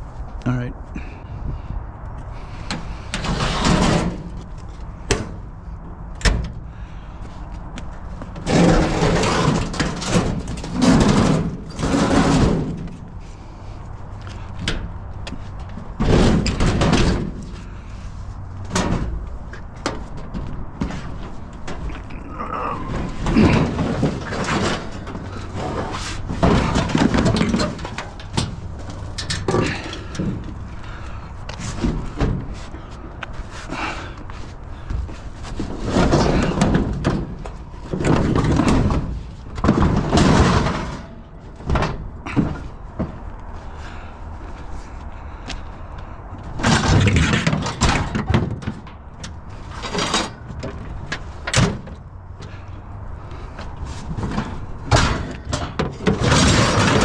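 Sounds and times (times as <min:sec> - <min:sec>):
scrap knocking and scraping: 0:02.4 - 0:57.0.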